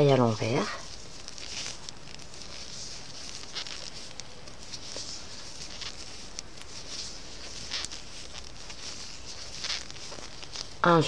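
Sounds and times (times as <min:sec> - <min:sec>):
yarn rustling: 0:00.0 - 0:11.0.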